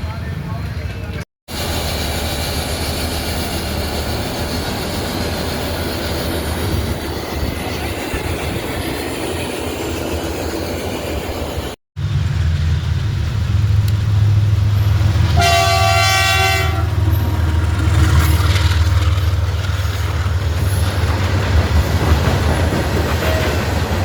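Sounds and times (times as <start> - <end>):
train wheels rumbling on rails: 0.1 - 24.0.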